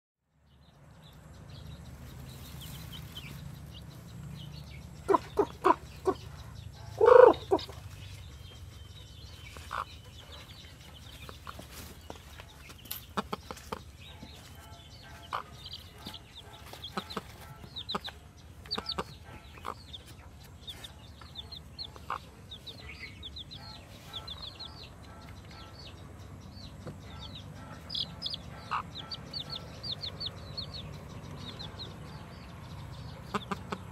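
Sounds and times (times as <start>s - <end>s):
chicks peeping: 0.5s - 33.9s
hen clucking: 4.9s - 25.8s, 26.8s - 33.9s.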